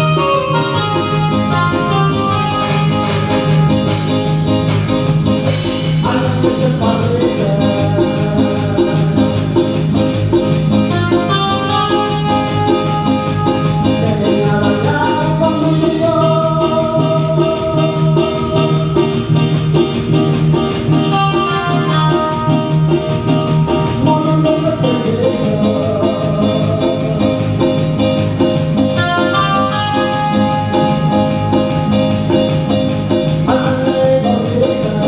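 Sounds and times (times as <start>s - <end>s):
latin dance band playing: 0.0s - 35.0s.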